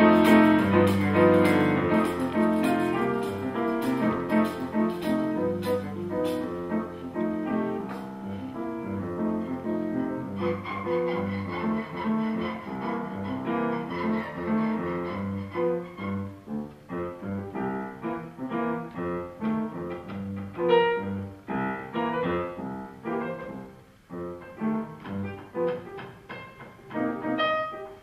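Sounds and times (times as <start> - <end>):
muted piano jazz line: 0.0 - 28.0.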